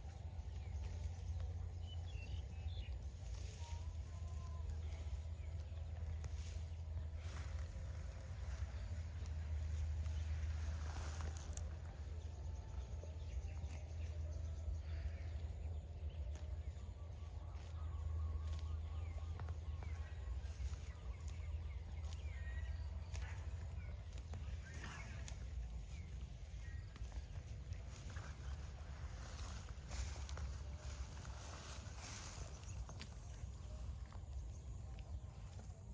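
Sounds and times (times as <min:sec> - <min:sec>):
faint chirps: 0:00.0 - 0:35.9
low rumble: 0:00.0 - 0:35.9.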